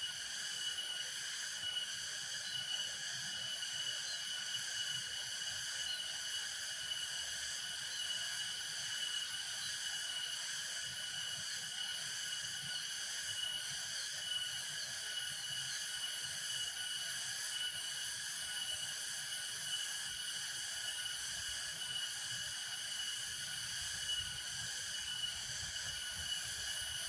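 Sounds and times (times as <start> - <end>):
insect chorus drone: 0.0 - 27.0.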